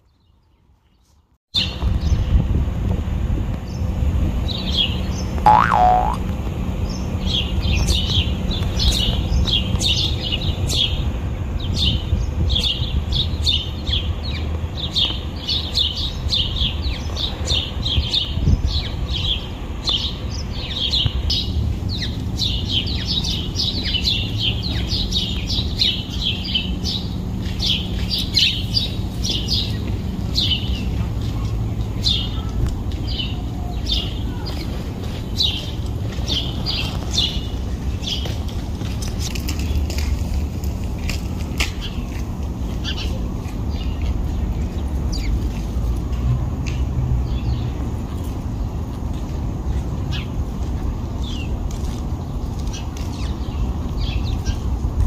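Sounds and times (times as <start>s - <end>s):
sparrows chirping: 4.5s - 6.2s, 6.8s - 40.2s, 41.1s - 55.0s.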